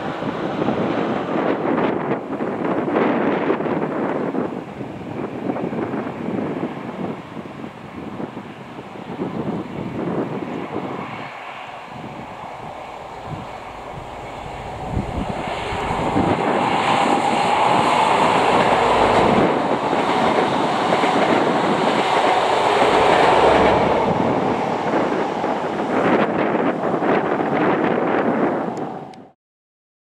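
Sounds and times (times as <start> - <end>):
train passing at speed: 0.0 - 29.4.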